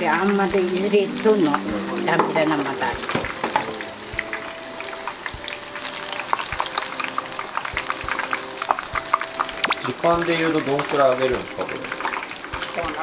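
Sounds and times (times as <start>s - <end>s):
oil bubbling with crackles and pops: 0.0s - 13.0s.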